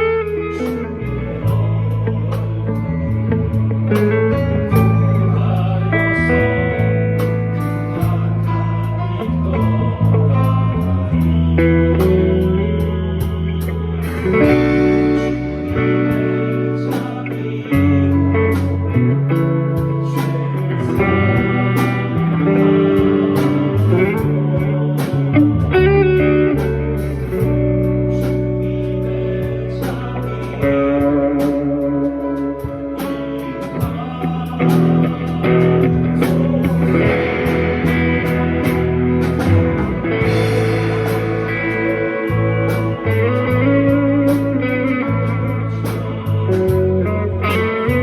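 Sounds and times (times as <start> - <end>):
bass line: 0.0 - 48.0
plucked guitar-like melody: 0.0 - 48.0
steady drum beat: 0.0 - 48.0.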